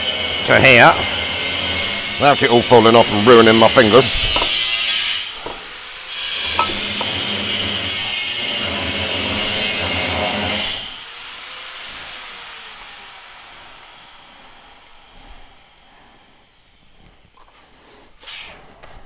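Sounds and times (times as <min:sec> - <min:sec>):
power tool running: 0:00.0 - 0:17.2.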